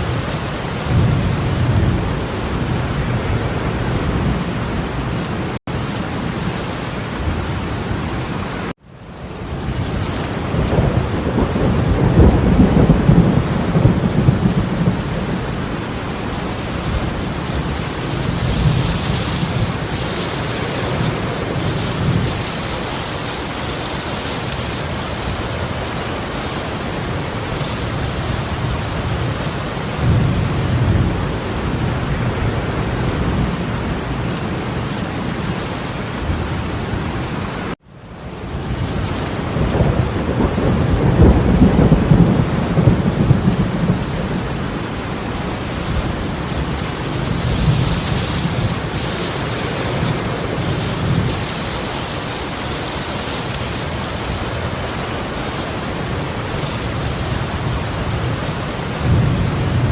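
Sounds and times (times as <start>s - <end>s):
rolling thunder: 0.0s - 8.0s, 9.5s - 37.0s, 38.5s - 59.9s
heavy rain pouring: 0.0s - 59.9s.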